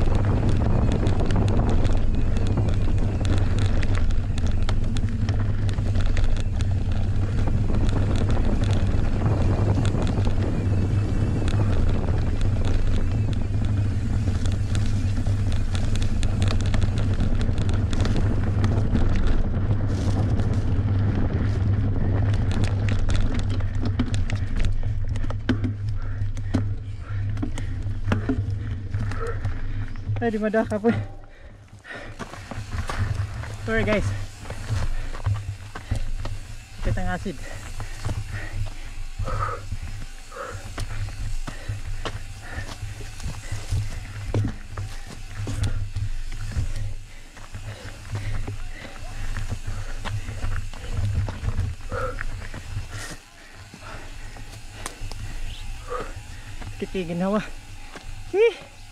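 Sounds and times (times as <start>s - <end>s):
bike clicks and rattles: 0.0s - 58.9s
wind rumbling on microphone: 0.0s - 58.9s.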